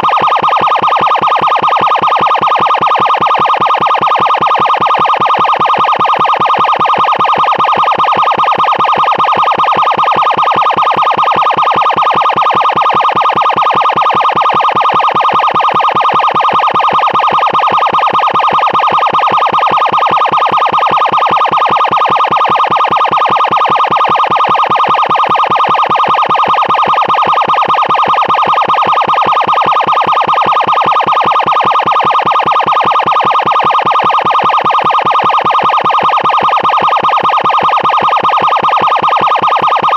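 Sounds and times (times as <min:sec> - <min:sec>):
pulsing emergency siren: 0:00.0 - 0:39.9.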